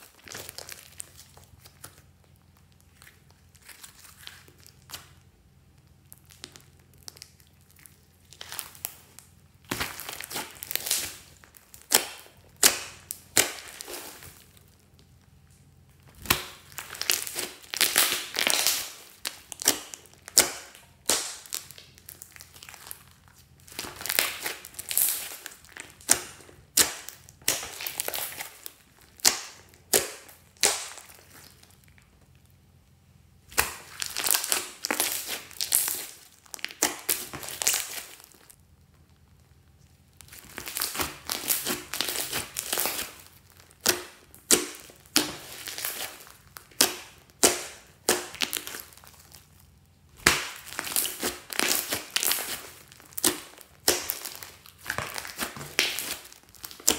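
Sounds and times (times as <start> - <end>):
slime crackling and popping: 0.0 - 32.8, 33.4 - 56.9.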